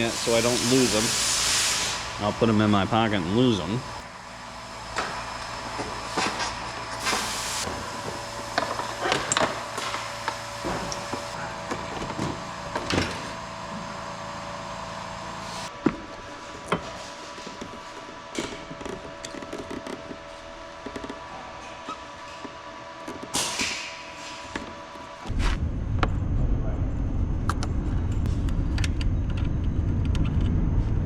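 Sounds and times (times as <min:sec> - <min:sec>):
steady background hum: 0:00.0 - 0:31.0.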